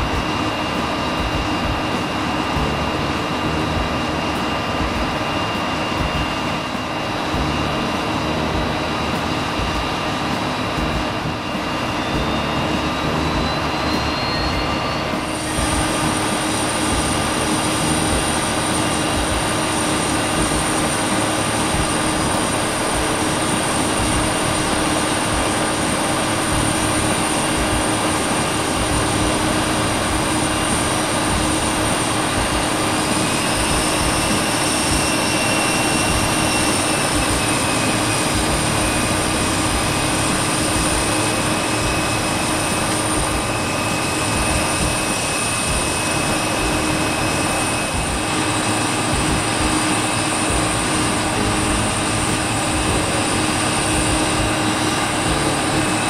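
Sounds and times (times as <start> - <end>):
faint rising and falling tone: 0.0 - 56.0
high steady whine: 0.0 - 56.0
jet engines heard from cabin: 0.0 - 56.0.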